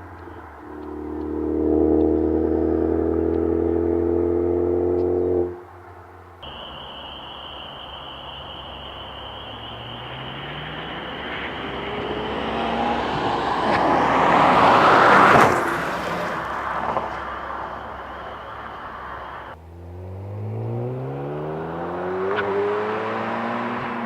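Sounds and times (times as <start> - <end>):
car engine accelerating past: 0.0 - 5.8, 6.4 - 24.0.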